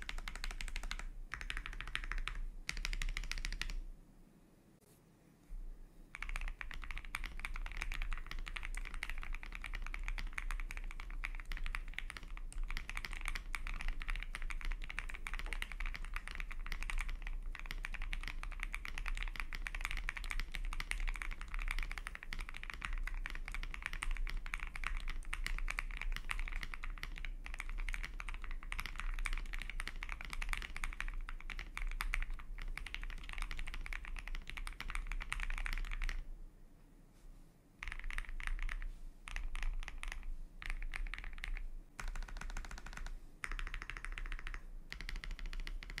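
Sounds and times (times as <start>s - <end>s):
fast keyboard typing clacks: 0.0s - 3.8s, 6.1s - 36.2s, 37.8s - 46.0s.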